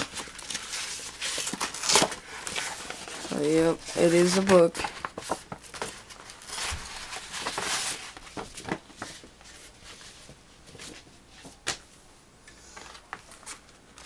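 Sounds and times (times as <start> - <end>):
paper and cardboard rustling: 0.0 - 11.7.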